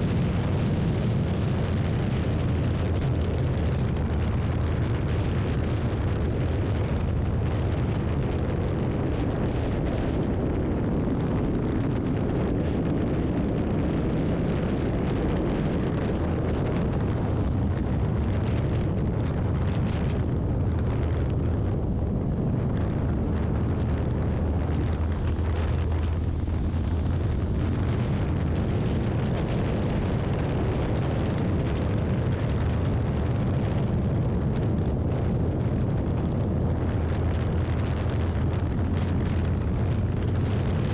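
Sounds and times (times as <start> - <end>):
motorcycle engine drone: 0.0 - 40.9
wind rush buffeting microphone: 0.0 - 40.9.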